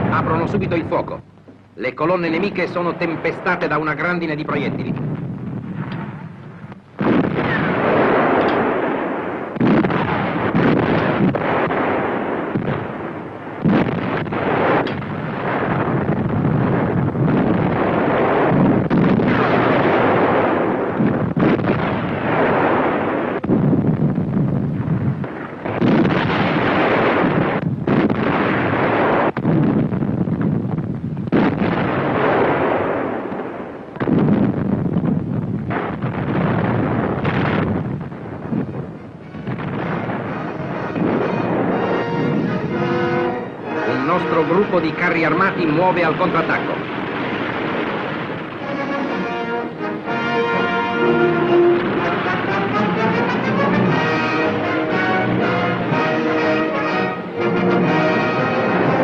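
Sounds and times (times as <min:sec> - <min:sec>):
artillery booms: 0:00.0 - 0:01.2, 0:01.8 - 0:59.0
field gun blasts: 0:02.0 - 0:59.0.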